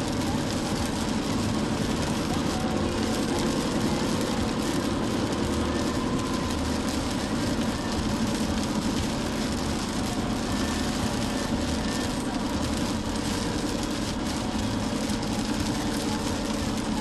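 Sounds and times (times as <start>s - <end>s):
car engine and road hum: 0.0s - 17.0s
rain and wet tyres hissing: 0.0s - 17.0s.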